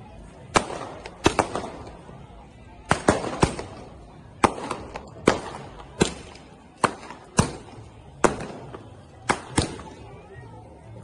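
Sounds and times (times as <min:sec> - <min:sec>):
fireworks bangs with echo: 0:00.4 - 0:02.2, 0:02.8 - 0:10.0.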